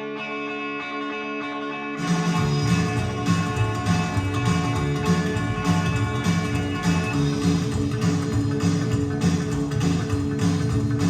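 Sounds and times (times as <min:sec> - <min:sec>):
rockabilly guitar: 0:00.0 - 0:11.0
upright bass walking line: 0:02.0 - 0:11.0
steady drum beat: 0:02.1 - 0:11.0.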